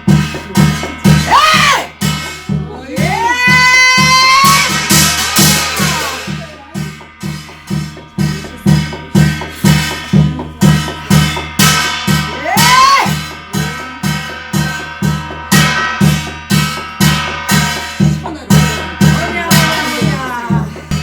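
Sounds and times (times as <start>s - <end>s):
clashing cymbals: 0.0s - 21.0s
drum beat: 0.0s - 21.0s
ringing metal tones: 0.0s - 21.0s.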